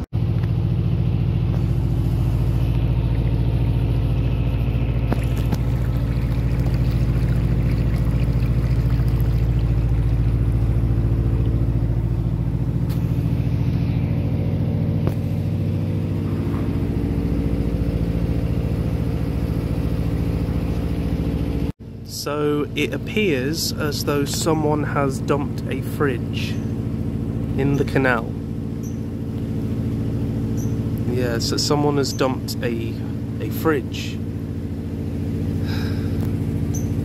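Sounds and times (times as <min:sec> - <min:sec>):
boat engine throbbing: 0:00.6 - 0:37.0.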